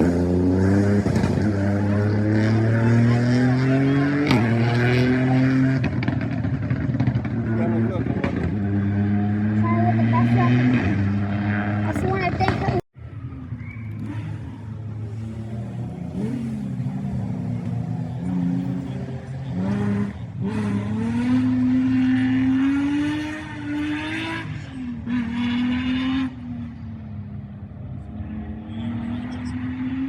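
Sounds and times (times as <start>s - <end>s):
rally car engine revving: 0.0s - 12.8s, 13.6s - 30.0s.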